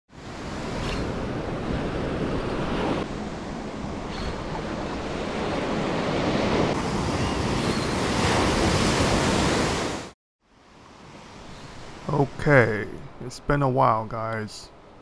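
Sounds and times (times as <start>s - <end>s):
waves breaking on beach: 0.1s - 14.0s.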